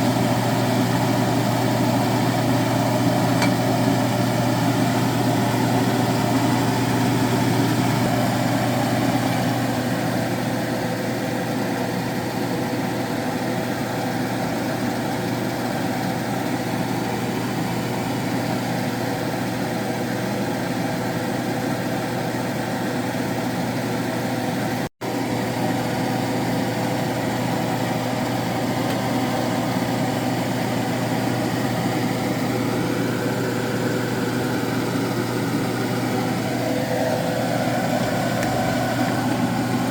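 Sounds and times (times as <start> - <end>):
mechanical hum with low drone: 0.0 - 39.9.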